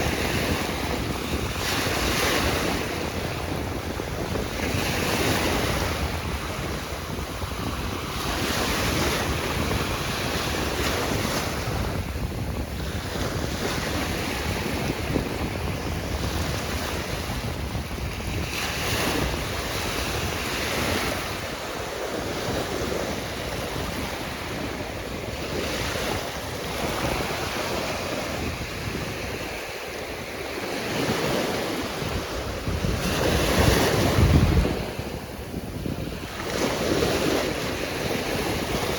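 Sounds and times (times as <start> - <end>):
ocean surf washing in: 0.0 - 38.9
wind buffeting microphone: 0.0 - 38.9.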